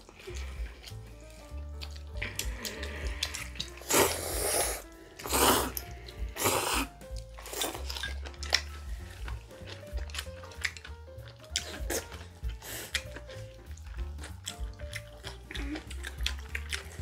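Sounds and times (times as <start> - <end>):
background music: 0.0 - 17.0
noodles being slurped: 0.0 - 17.0.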